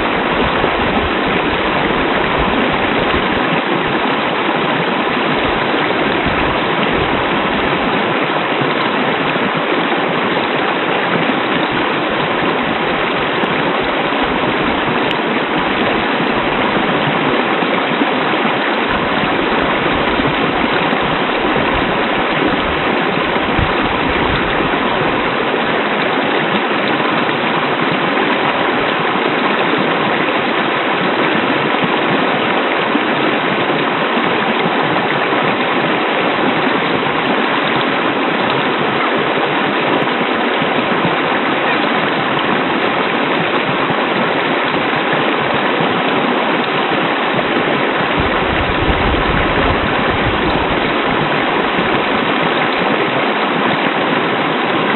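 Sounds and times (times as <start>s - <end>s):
waterfall rushing and splashing: 0.0s - 54.9s.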